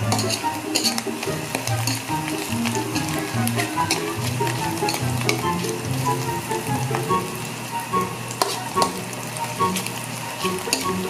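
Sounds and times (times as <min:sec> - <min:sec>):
mushrooms sizzling in a pan: 0:00.0 - 0:11.0
spatula stirring: 0:00.0 - 0:11.0.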